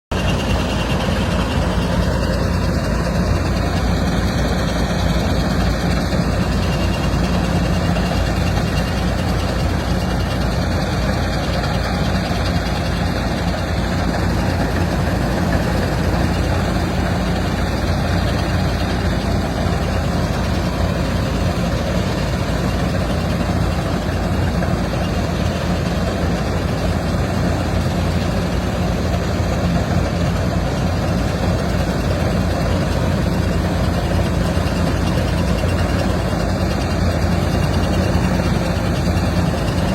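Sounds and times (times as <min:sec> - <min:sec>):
harvester engine humming: 0:00.1 - 0:39.9.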